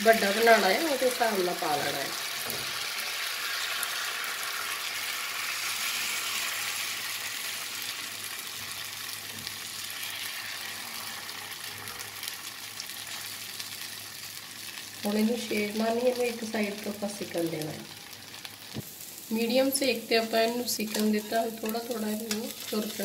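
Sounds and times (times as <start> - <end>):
batter sizzling in oil: 0.0 - 23.0.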